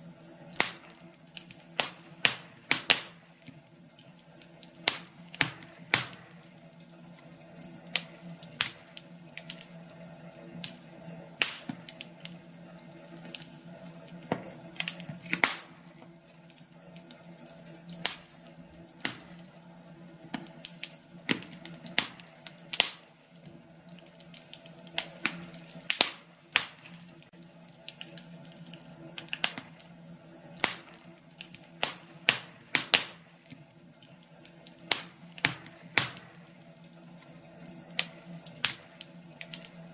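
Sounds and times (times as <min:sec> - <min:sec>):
firewood crackling: 0:00.0 - 0:39.9.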